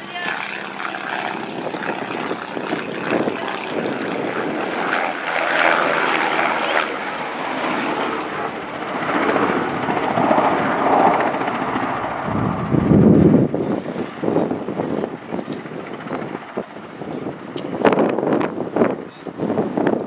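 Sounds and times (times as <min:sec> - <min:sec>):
helicopter flying past: 0:00.0 - 0:20.0.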